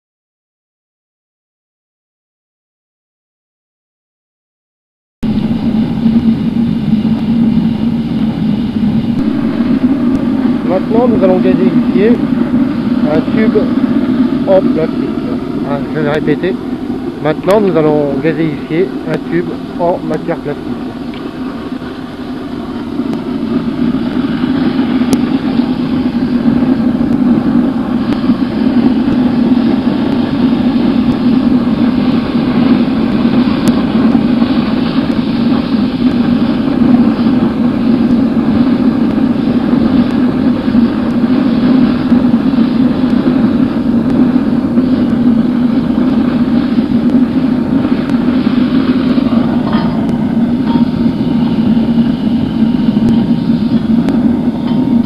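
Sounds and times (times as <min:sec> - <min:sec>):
stove fire roaring: 0:05.2 - 0:55.0.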